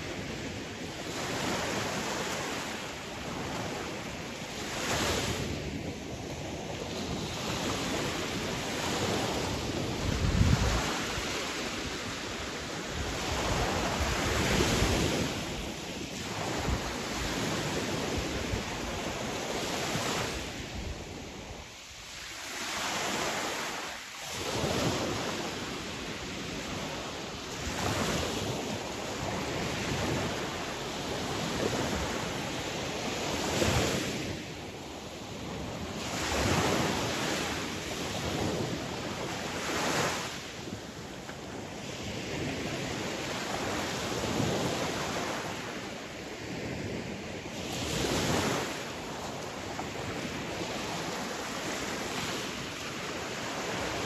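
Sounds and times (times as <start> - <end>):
sea waves breaking ashore: 0.0 - 54.0.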